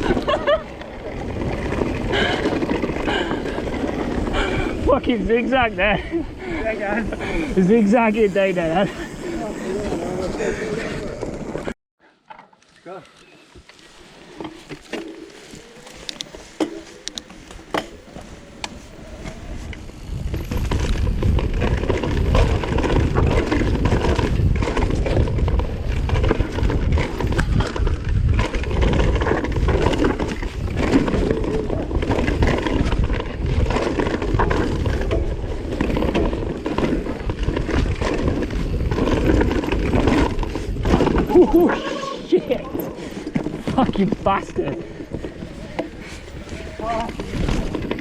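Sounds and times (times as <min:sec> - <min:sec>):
mountain bike rattling on dirt trail: 0:00.0 - 0:11.8, 0:13.7 - 0:48.0.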